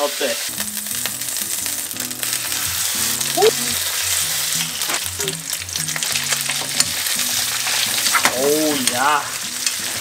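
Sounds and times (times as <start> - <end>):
pork sizzling in oil: 0.0 - 10.0
background music: 0.5 - 10.0.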